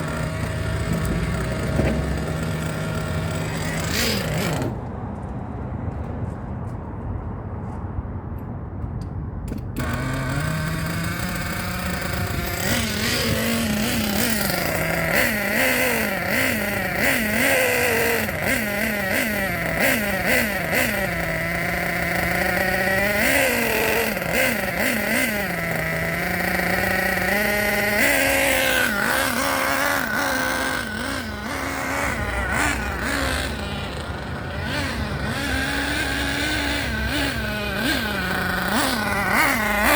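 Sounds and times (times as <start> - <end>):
nitro engine revving: 0.0 - 5.3, 9.5 - 39.9.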